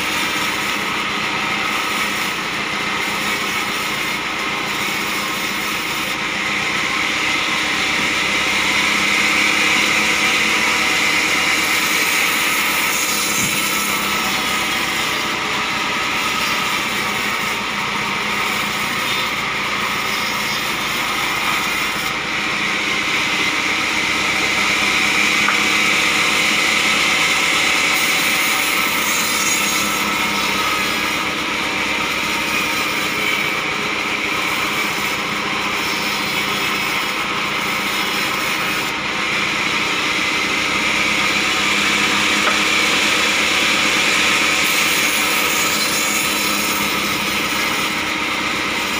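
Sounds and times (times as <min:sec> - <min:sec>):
saw blade hissing in wood: 0:00.0 - 0:22.6, 0:23.6 - 0:39.0, 0:40.8 - 0:48.9
band sawmill drone: 0:00.0 - 0:48.9.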